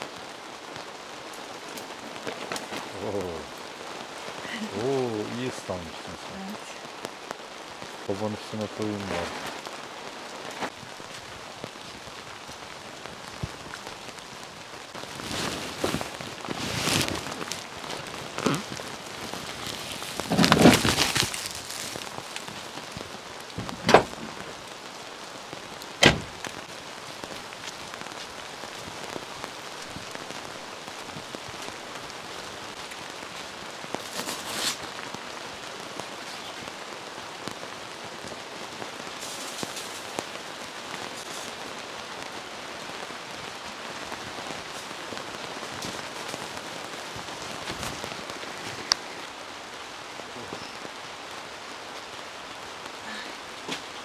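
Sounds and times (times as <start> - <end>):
rustles: 0.0 - 54.0
steady rain falling: 0.0 - 54.0.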